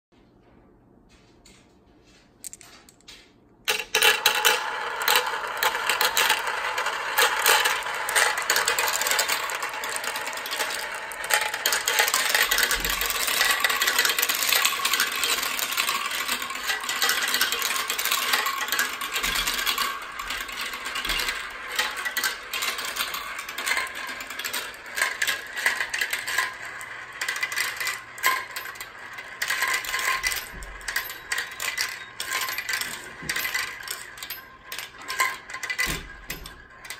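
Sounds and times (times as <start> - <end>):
marbles rolling on tracks: 3.7 - 36.9.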